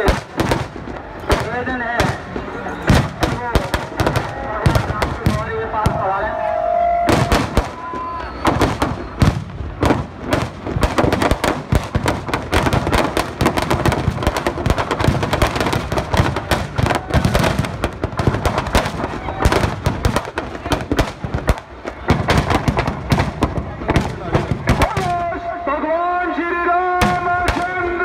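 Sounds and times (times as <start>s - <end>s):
firecrackers cracking and banging: 0.0s - 6.1s, 7.0s - 25.4s, 27.0s - 28.0s.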